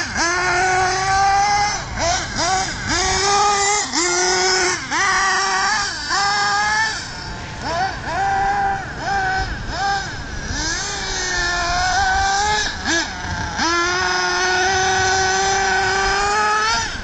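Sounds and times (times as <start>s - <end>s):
nitro engine revving high: 0.0s - 17.0s.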